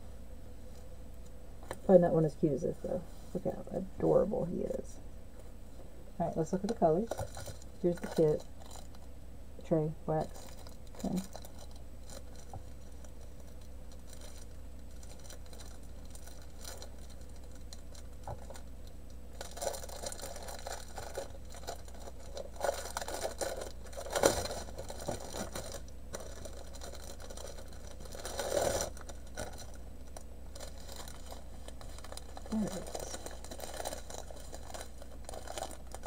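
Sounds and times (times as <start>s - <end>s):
low room hum: 0.0s - 36.0s
plastic packaging crinkling: 6.3s - 36.0s.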